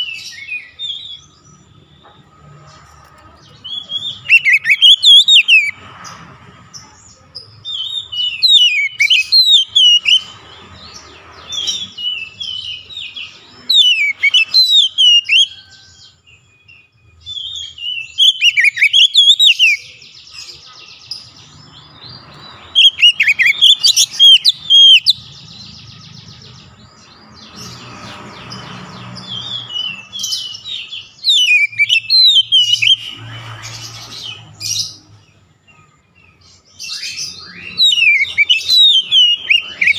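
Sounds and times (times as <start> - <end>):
bird singing whistles and warbles: 3.5 - 5.8, 7.6 - 15.8, 16.6 - 26.8, 27.4 - 39.9.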